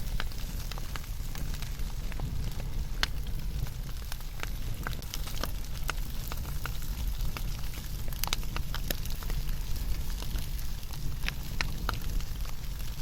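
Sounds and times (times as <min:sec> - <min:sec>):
low steady rumble: 0:00.0 - 0:13.0
wood fire crackling and popping: 0:00.0 - 0:13.0.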